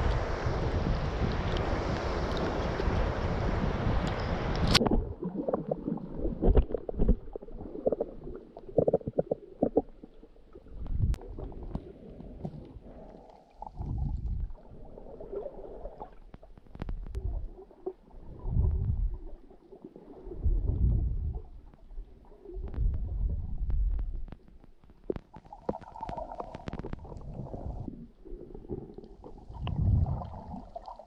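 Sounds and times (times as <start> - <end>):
underwater surges of moving water: 0.0 - 31.0.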